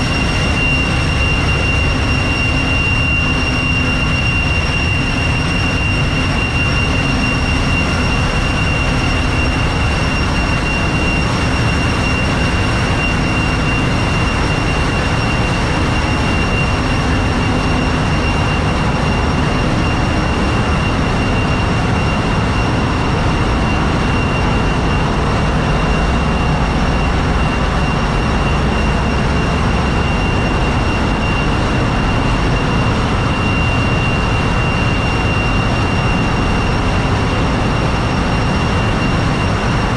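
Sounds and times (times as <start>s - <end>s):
engine room machinery din: 0.0s - 39.9s.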